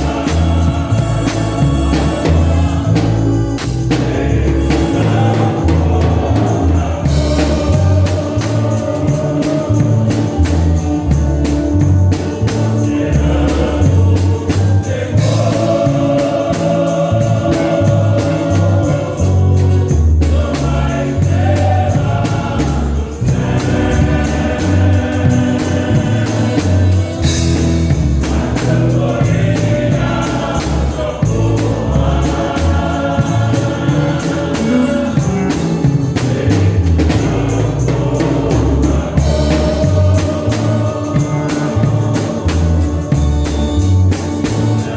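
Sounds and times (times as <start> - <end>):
bass and percussion beat: 0.0 - 44.9
gospel group singing: 0.0 - 44.9.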